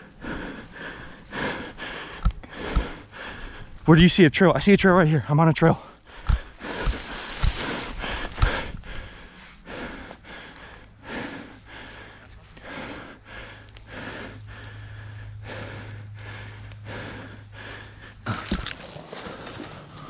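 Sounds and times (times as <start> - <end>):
person breathing heavily: 0.0 - 3.9, 5.8 - 20.0
faint low hum: 0.0 - 20.0.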